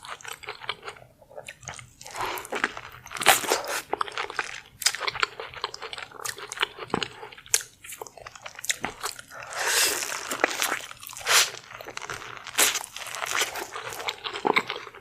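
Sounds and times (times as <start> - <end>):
crunchy food being chewed: 0.0 - 15.0.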